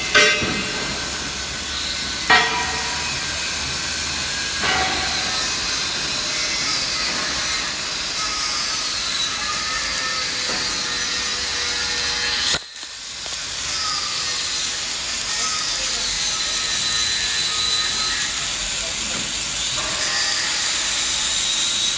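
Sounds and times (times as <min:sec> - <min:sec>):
arc welding crackling hiss: 0:00.0 - 0:21.9.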